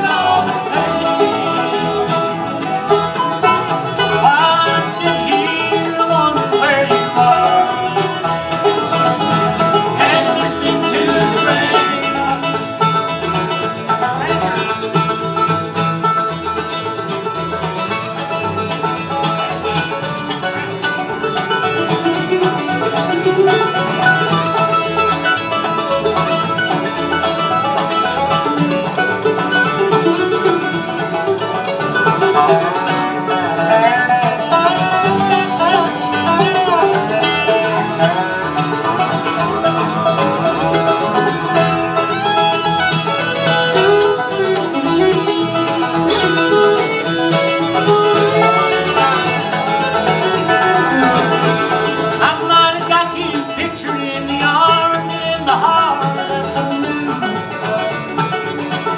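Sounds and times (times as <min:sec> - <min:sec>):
acoustic guitars: 0:00.0 - 0:58.9
banjo: 0:00.0 - 0:58.9
fiddle: 0:00.0 - 0:58.9
upright bass: 0:00.0 - 0:58.9.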